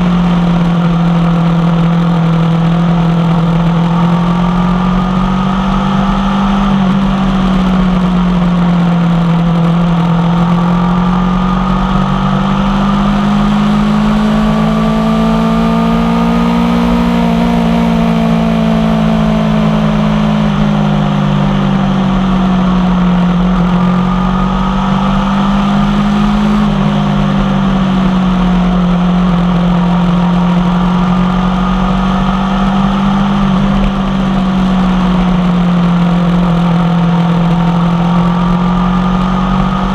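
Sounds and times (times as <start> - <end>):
motorcycle engine at cruising revs: 0.0 - 39.9.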